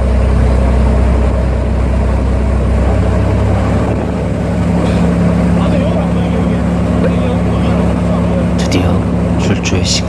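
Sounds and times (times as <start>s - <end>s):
boat engine humming: 0.0s - 10.0s
wind and water rushing: 0.4s - 9.7s.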